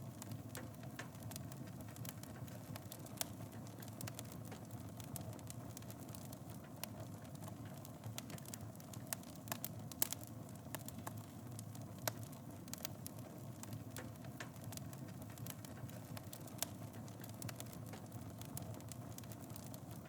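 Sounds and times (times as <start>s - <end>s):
fire crackling and popping: 0.0s - 20.0s
flames rumbling: 0.0s - 20.0s.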